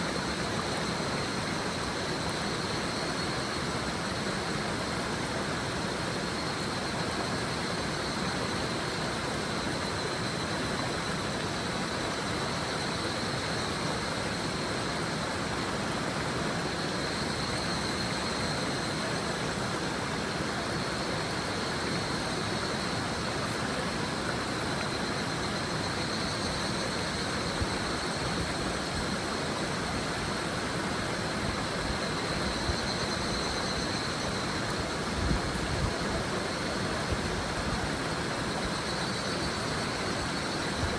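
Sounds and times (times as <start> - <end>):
cicadas calling: 0.0 - 40.9
river water babbling over stones: 0.1 - 40.9.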